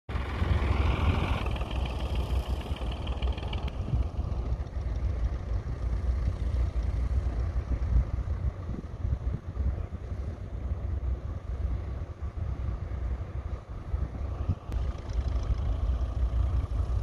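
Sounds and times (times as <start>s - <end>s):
tractor engine running under load: 0.1s - 17.0s.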